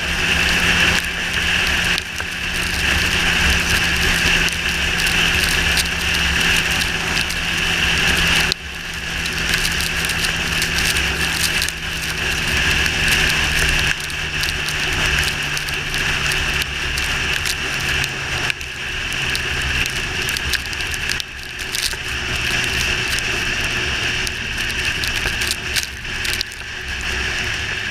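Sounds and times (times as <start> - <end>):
motorcycle engine drone: 0.0 - 27.9
tyres on wet road: 0.0 - 27.9
wind noise: 0.0 - 27.9.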